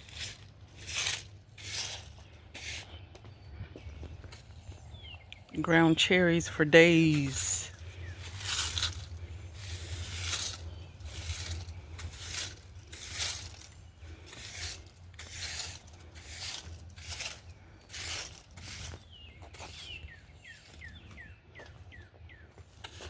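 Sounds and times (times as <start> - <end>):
dry foliage rustling: 0.0 - 21.4.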